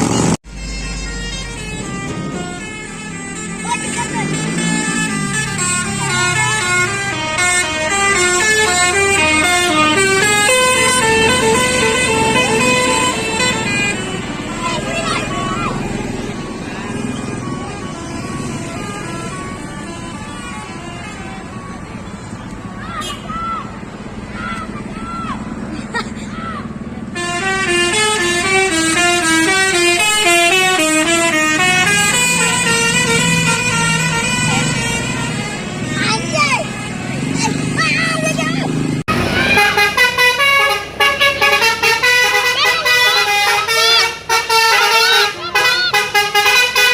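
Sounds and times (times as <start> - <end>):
musical bus horn playing a tune: 0.0 - 23.4, 27.1 - 37.4, 39.1 - 46.9.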